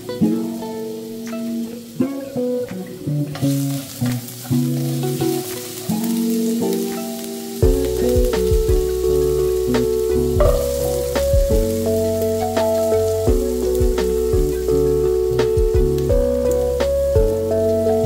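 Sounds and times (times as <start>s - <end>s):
background music: 0.0s - 18.0s
garlic sizzling in oil: 0.0s - 18.0s.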